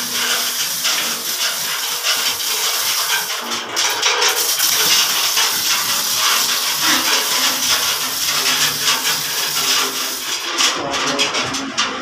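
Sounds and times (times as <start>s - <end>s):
loud steady hiss: 0.0s - 3.4s, 4.3s - 10.6s.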